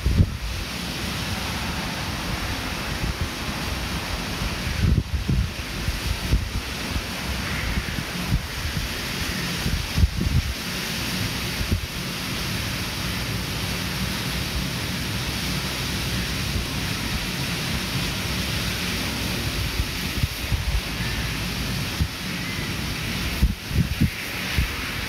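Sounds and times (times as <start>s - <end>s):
outdoor ambience hiss: 0.0s - 25.0s
wind blowing on microphone: 0.0s - 25.0s.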